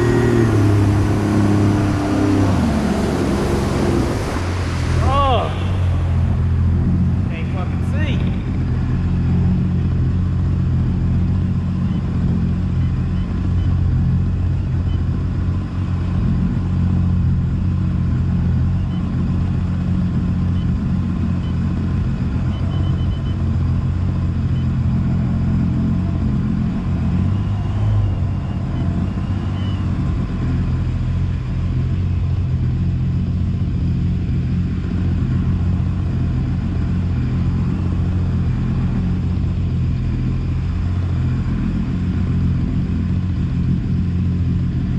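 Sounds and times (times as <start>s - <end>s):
outboard motor droning: 0.0s - 44.9s.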